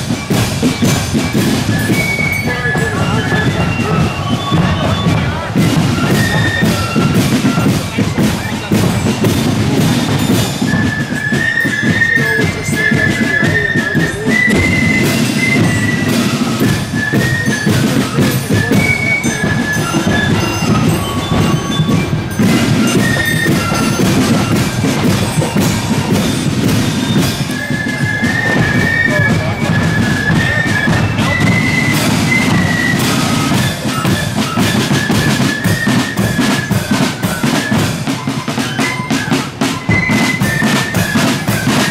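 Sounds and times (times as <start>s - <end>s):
flutes playing high melody: 0.0s - 41.9s
side drums: 0.0s - 41.9s.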